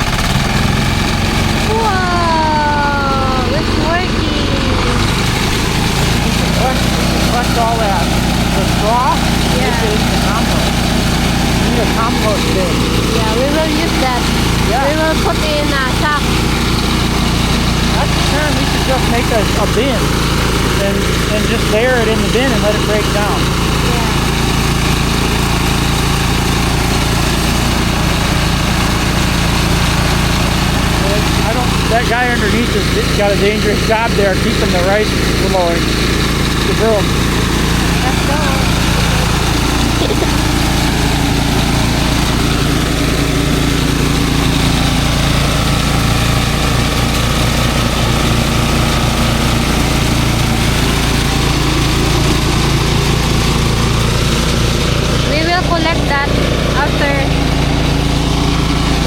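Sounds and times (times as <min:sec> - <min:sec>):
threshing machine running: 0:00.0 - 0:59.0.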